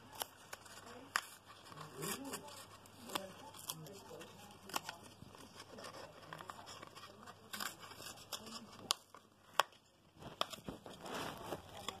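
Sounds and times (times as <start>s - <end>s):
cardboard crinkling and tearing: 0.0s - 12.0s.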